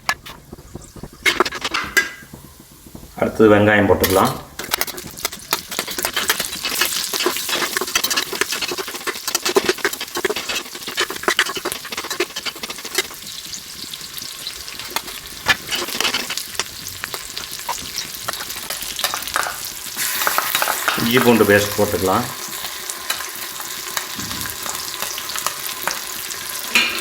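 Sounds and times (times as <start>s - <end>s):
spoon scraping pan: 0.0s - 3.1s, 3.9s - 27.0s
onions sizzling in oil: 0.0s - 27.0s.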